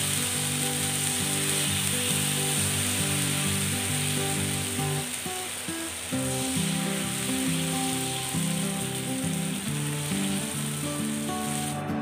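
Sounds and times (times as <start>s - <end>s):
batter sizzling on a pan: 0.0s - 11.8s
background music: 0.0s - 12.0s.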